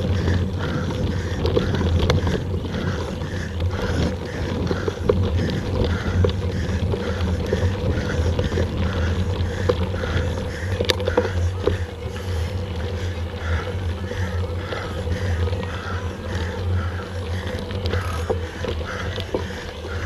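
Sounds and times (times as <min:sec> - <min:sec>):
bike rattling: 0:00.0 - 0:20.0
tyres crunching on dirt: 0:00.0 - 0:20.0
wind rumble on microphone: 0:00.0 - 0:20.0.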